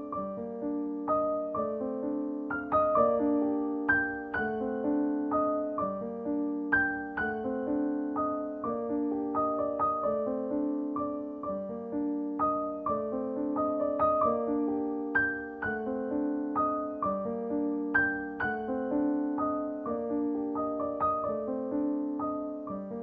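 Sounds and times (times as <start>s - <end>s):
gentle piano tune: 0.0s - 23.0s.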